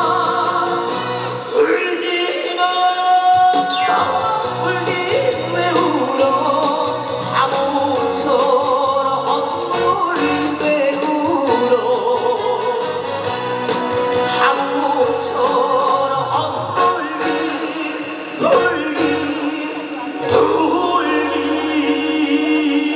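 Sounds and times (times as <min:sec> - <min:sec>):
man singing: 0:00.0 - 0:13.2, 0:14.1 - 0:22.9
band backing music: 0:00.0 - 0:22.9.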